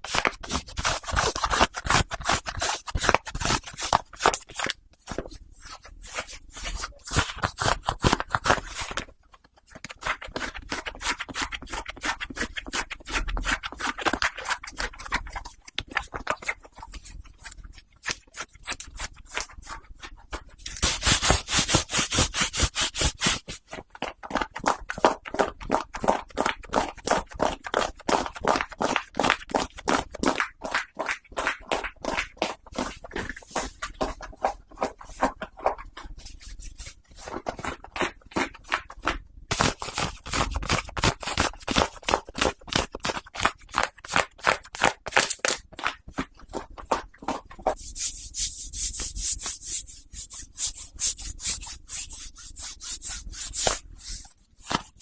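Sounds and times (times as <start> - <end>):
socks being scratched and rubbed: 0.0 - 55.0.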